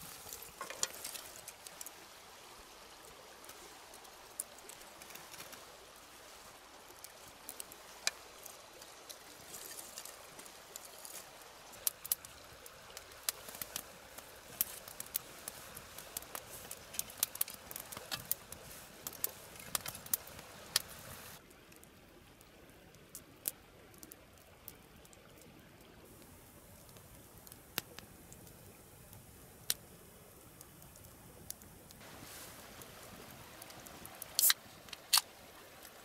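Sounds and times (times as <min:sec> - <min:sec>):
steady fire hiss: 0:00.0 - 0:21.4, 0:26.0 - 0:36.0
campfire crackling and popping: 0:00.0 - 0:36.0.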